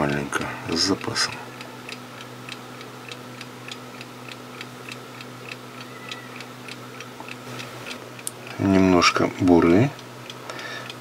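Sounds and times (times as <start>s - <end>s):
low electrical hum: 0.0s - 11.0s
quiet regular ticking: 0.0s - 11.0s.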